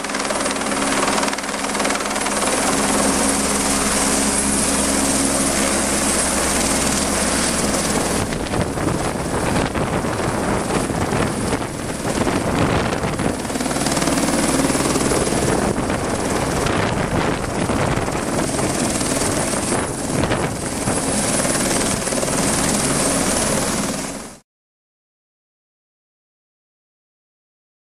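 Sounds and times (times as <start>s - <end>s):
helicopter hovering: 0.0s - 24.4s.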